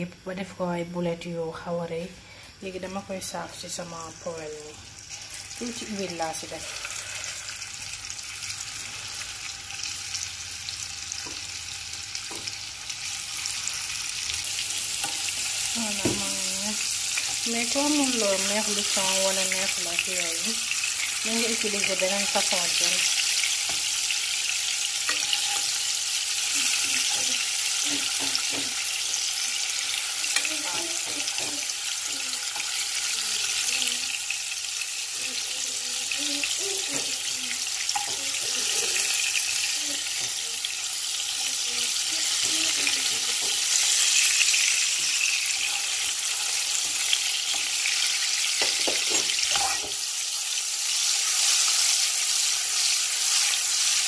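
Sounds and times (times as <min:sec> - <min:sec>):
fish balls sizzling in oil: 0:00.9 - 0:54.0
spoon turning food in pan: 0:09.5 - 0:35.4, 0:36.0 - 0:54.0.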